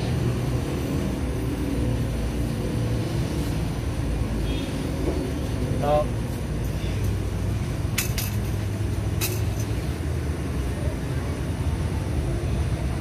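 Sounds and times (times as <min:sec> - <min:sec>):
engines rumbling: 0:00.0 - 0:13.0.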